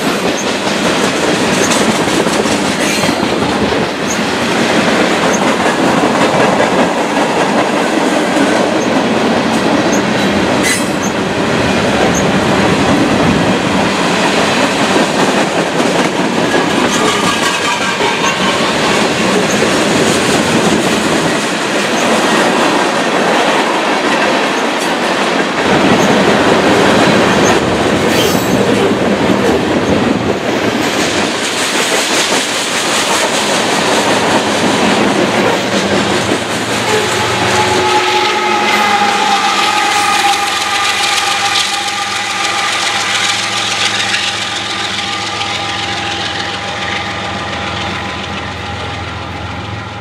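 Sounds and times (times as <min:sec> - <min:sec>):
train wheels clacking over rail joints: 0:00.0 - 0:49.8.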